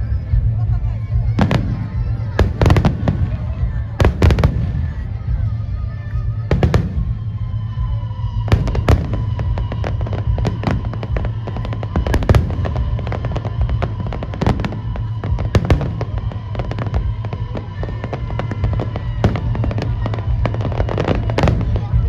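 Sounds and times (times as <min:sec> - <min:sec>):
fireworks crackling and booming: 0:00.0 - 0:22.0
music playing: 0:00.0 - 0:22.0.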